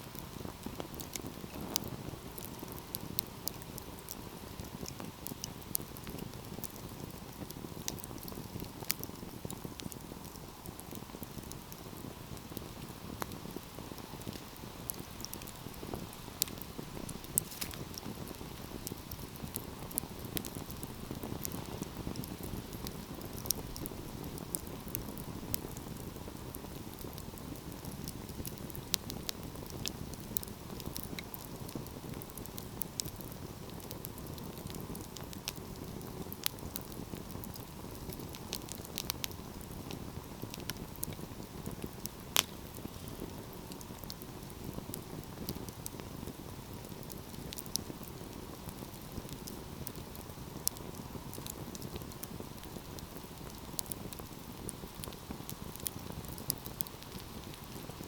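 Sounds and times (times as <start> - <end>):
fire popping and snapping: 0.0 - 58.0
wood fire crackling: 0.0 - 58.0.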